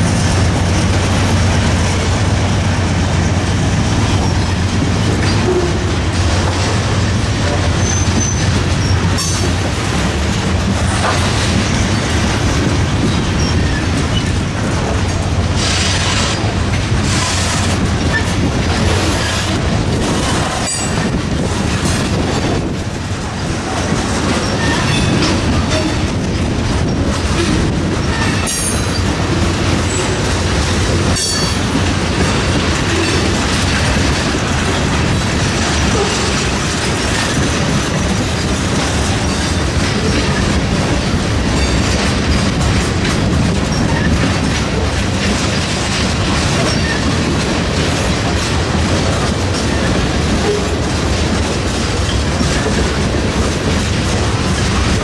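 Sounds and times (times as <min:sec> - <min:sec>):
train wheels clacking over rails: 0:00.0 - 0:55.0.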